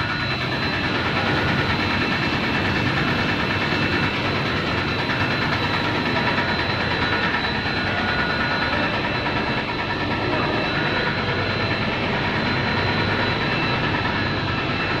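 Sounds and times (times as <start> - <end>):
high whining tones: 0.0 - 15.0
production line machinery running: 0.0 - 15.0.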